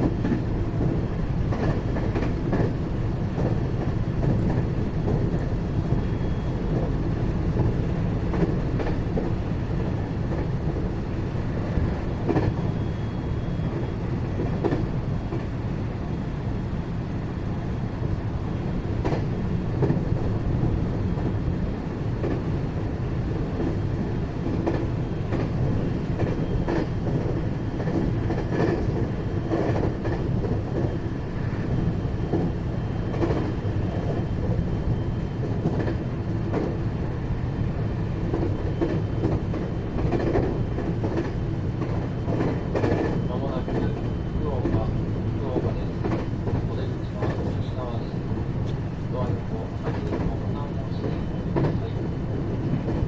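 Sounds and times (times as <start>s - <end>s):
rail joint click: 0.0s - 6.1s, 6.7s - 12.6s, 13.7s - 15.6s, 19.0s - 21.4s, 22.2s - 22.5s, 23.6s - 34.7s, 35.4s - 37.0s, 38.3s - 53.0s
wheels rumbling on rail: 0.0s - 53.0s.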